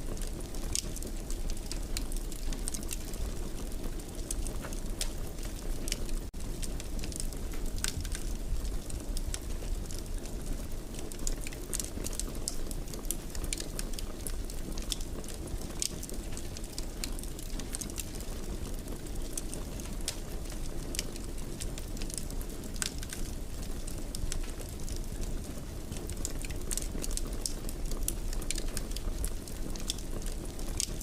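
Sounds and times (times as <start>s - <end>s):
fire crackling: 0.0s - 31.0s
low rumble of flames: 0.0s - 31.0s.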